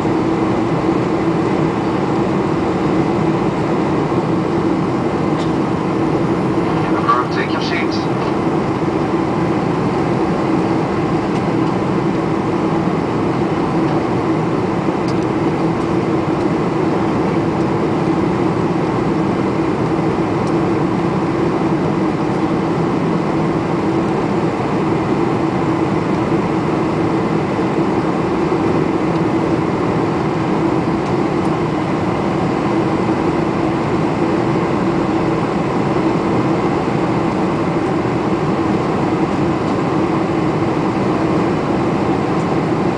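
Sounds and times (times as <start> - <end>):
airliner cabin engine drone: 0.0 - 42.9.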